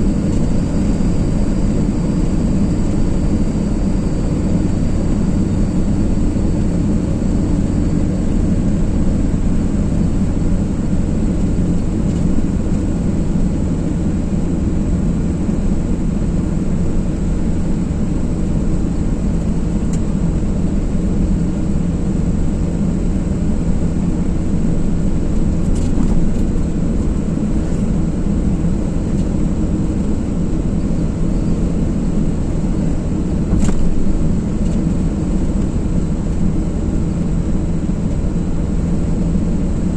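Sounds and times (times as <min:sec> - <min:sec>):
car engine: 0:00.0 - 0:39.9.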